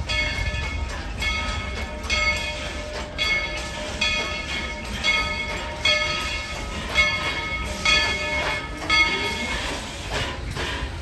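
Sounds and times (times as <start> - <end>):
locomotive bell ringing: 0.0 - 11.0
low rumble of moving train: 0.0 - 11.0.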